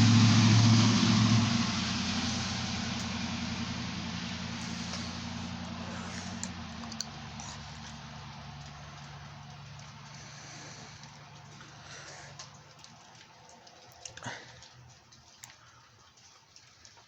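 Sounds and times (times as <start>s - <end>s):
vehicle engine rumble and hiss: 0.0s - 15.7s
low steady hum: 0.0s - 17.0s.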